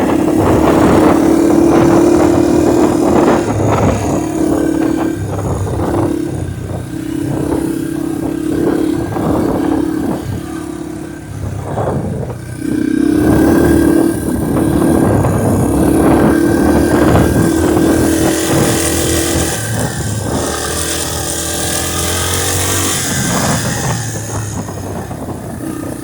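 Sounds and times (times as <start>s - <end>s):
vehicle engine under throttle: 0.0s - 26.0s
wind buffeting microphone: 0.0s - 26.0s.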